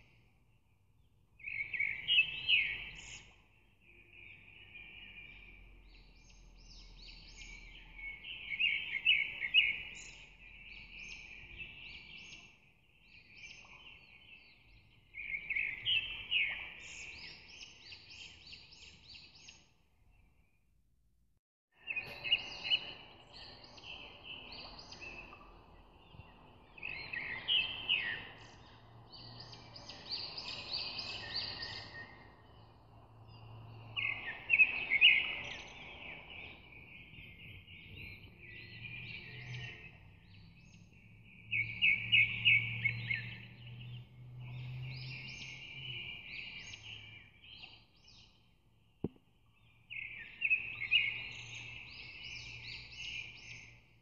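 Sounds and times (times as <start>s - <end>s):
birds chirping and trilling: 1.4s - 20.2s, 21.8s - 48.9s, 49.6s - 54.0s.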